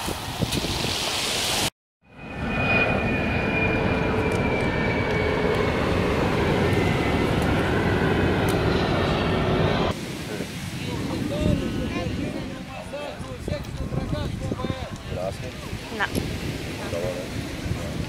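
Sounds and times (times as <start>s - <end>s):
jet airliner passing overhead: 0.2s - 18.0s.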